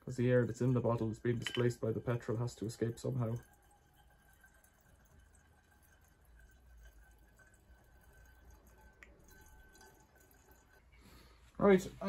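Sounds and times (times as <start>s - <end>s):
petrol trickling through funnel: 0.0s - 12.0s.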